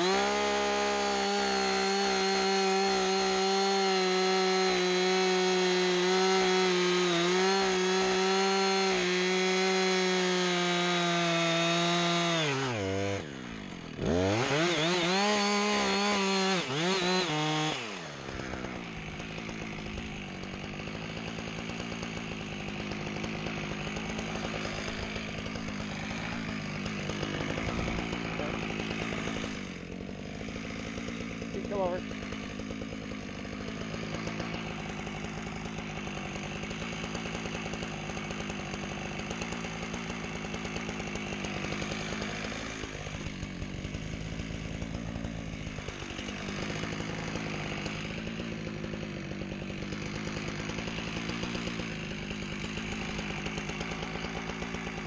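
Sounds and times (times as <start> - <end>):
chainsaw cutting wood: 0.0 - 55.0
chainsaw idling: 0.0 - 55.0
chainsaw revving: 0.0 - 55.0.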